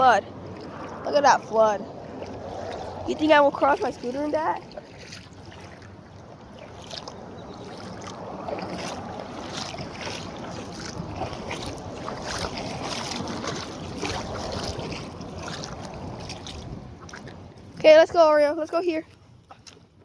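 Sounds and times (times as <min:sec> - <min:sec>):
floodwater rushing: 0:00.0 - 0:19.0
wind on the microphone: 0:00.0 - 0:19.2.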